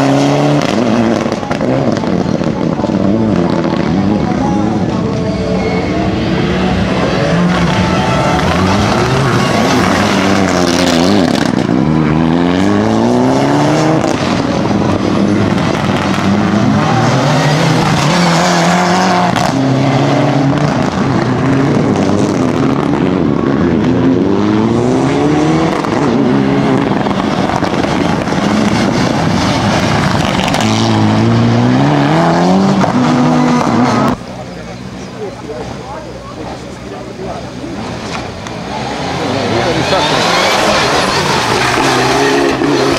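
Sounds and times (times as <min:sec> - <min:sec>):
rally car engine accelerating: 0:00.0 - 0:42.9.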